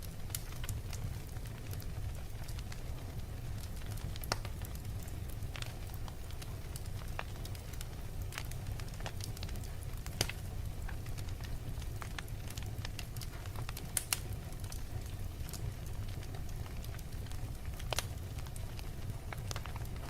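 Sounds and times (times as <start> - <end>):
fire crackles and pops: 0.0 - 20.0
wood fire rumbling: 0.0 - 20.0.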